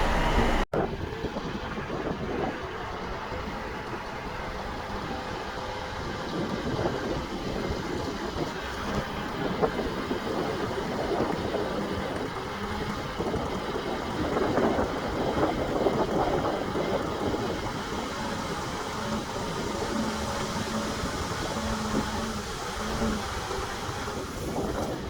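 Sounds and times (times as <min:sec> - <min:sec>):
diesel engine with metallic clatter: 0:00.0 - 0:25.0.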